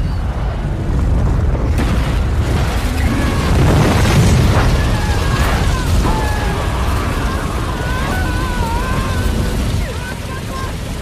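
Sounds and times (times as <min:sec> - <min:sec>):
deep rumbling boom: 0:00.2 - 0:09.9.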